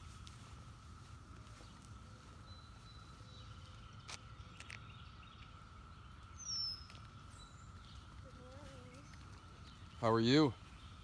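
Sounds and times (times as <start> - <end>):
distant cicada chorus drone: 0.0 - 11.0
high falling bird chirp: 0.0 - 11.0.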